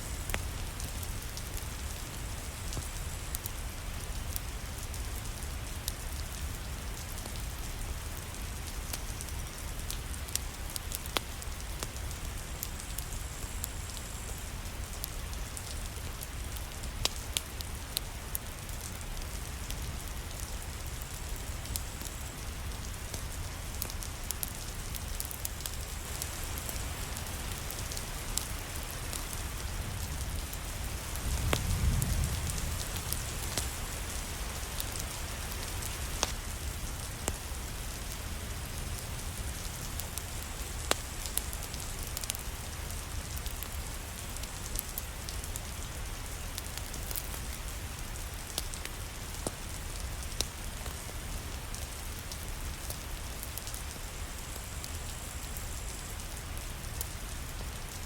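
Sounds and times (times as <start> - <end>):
rain falling: 0.0 - 58.0
fireplace crackling: 8.2 - 58.0.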